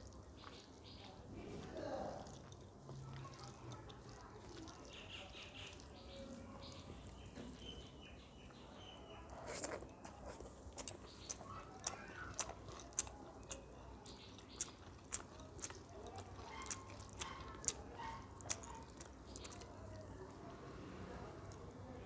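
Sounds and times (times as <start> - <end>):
chewing: 0.0 - 22.0.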